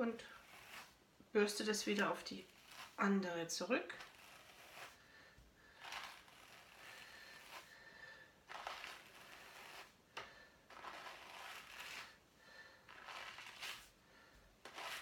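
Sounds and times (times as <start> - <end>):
wool cards brushing wool: 0.0 - 3.1, 3.8 - 5.1, 5.7 - 12.2, 12.8 - 14.0, 14.6 - 15.0.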